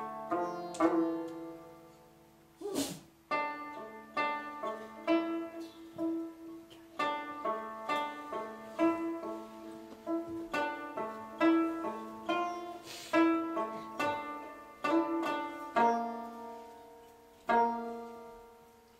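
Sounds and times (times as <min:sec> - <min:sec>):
plucked string melody: 0:00.0 - 0:02.6, 0:03.2 - 0:18.9.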